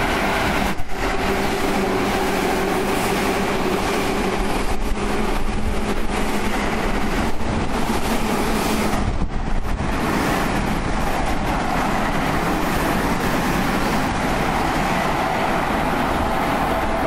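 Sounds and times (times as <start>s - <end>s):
express trains passing at speed: 0.0s - 17.0s.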